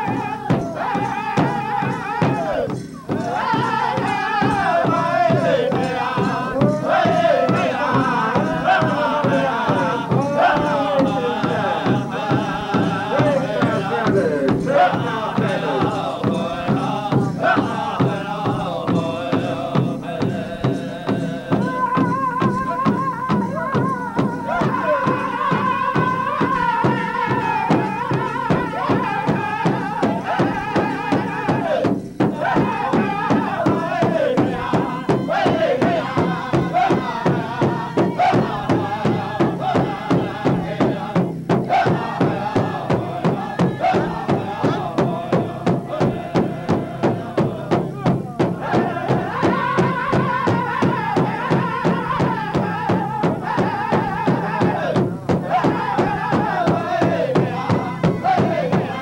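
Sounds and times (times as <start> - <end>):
large bass drum beat: 0.0 - 59.0
men singing in group: 0.0 - 59.0.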